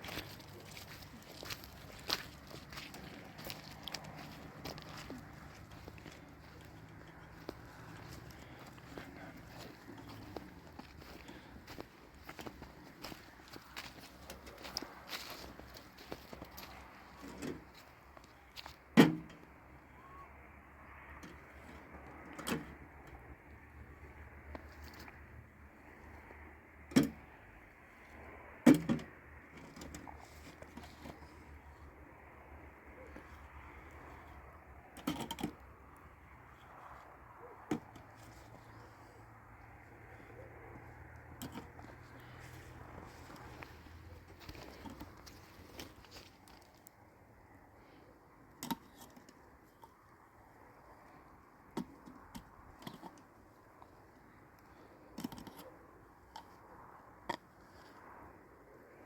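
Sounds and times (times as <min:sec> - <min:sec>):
faint background noise: 0:00.0 - 0:59.0.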